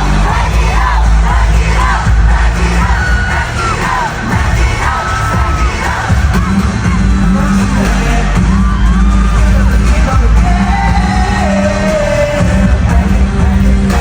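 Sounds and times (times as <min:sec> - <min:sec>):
pop song with heavy bass beat: 0:00.0 - 0:14.0.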